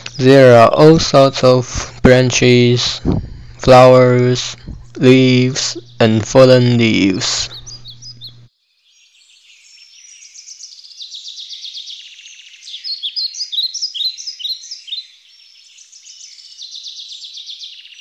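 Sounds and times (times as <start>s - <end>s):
birds chirping and trilling: 0.0s - 1.6s, 2.2s - 18.0s.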